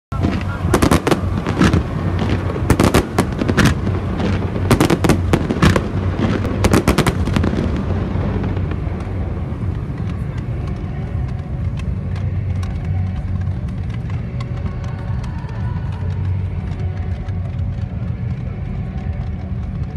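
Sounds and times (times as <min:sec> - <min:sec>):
fireworks banging: 0:00.1 - 0:19.9
fountain fireworks crackling: 0:00.1 - 0:19.9.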